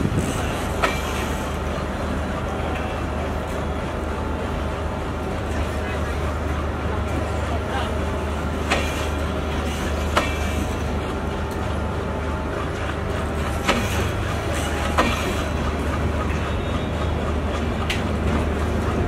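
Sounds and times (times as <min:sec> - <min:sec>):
wheels clacking over rail joints: 0:00.0 - 0:03.6, 0:06.4 - 0:19.0
passenger train rumbling past: 0:00.0 - 0:19.0.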